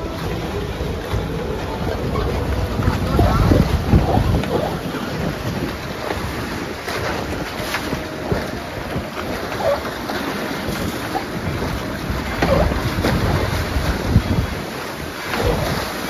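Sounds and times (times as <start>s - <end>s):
rushing water churning: 0.0s - 16.0s
wind buffeting microphone: 0.0s - 16.0s.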